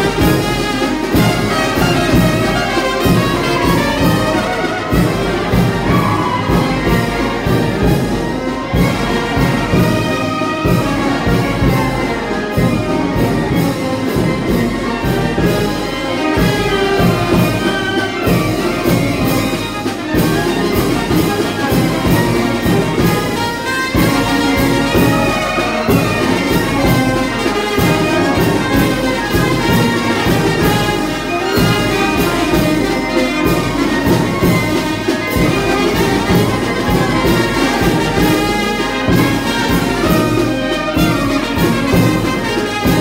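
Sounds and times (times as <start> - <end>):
brass band playing: 0.0 - 43.0
steady drum beat: 0.0 - 43.0.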